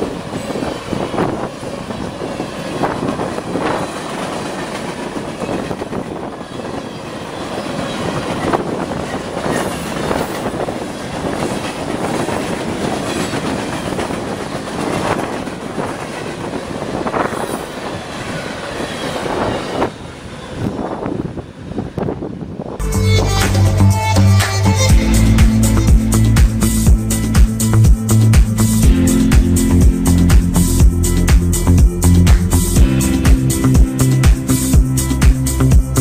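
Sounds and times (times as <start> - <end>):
freight train wheels rumbling on rail: 0.0 - 23.3, 24.9 - 36.0.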